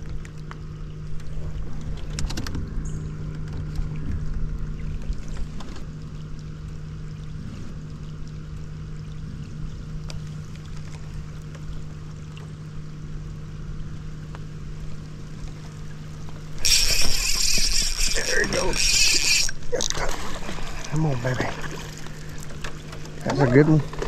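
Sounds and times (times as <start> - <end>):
low electric motor hum: 0.0 - 24.0.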